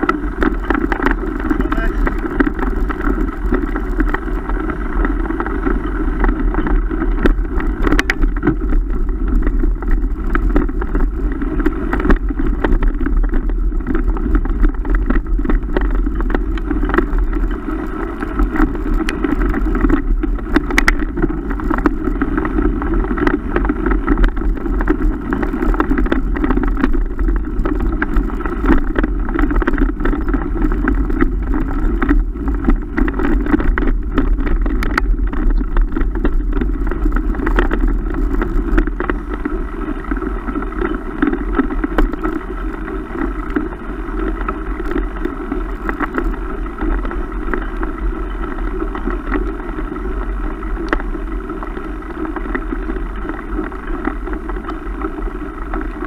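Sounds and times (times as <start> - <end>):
bike knocks and rattles: 0.0 - 50.2
wind on camera: 0.0 - 56.0.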